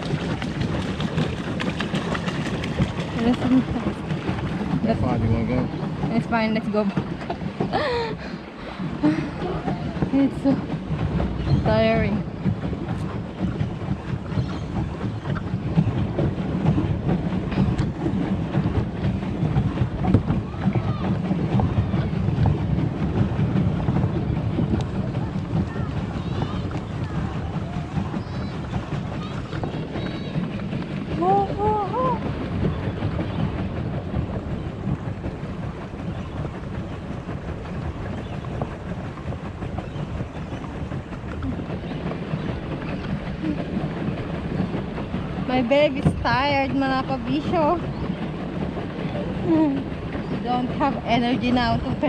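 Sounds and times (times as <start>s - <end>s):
pedal boat churning: 0.0s - 52.0s
water splashes: 0.0s - 52.0s
wind rumble on microphone: 0.0s - 52.0s.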